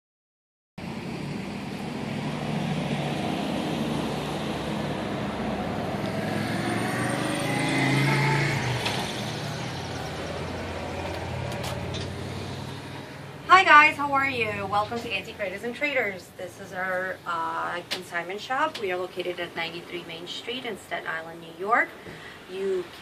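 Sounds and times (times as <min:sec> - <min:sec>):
cars passing with engine hum: 0:00.8 - 0:23.0.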